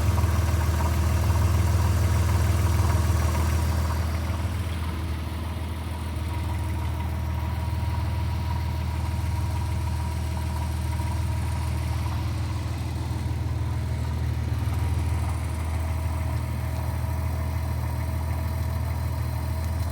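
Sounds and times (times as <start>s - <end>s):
car engine idling: 0.0s - 19.9s
engine rattle: 0.0s - 19.9s.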